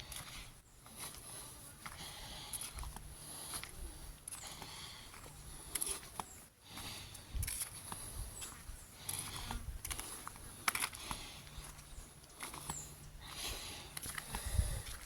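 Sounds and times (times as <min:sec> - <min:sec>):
footsteps on outdoor path: 0:00.0 - 0:15.0.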